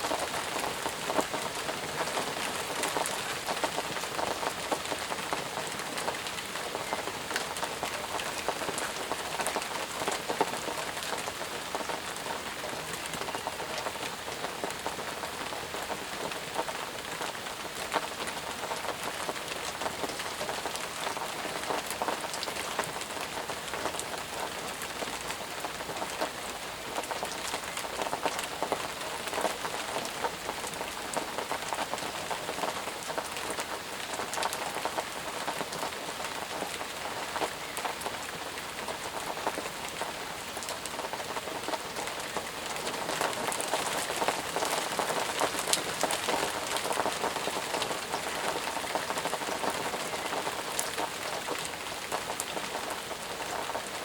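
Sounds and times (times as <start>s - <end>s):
close raindrop impacts: 0.0s - 54.0s
heavy rain: 0.0s - 54.0s.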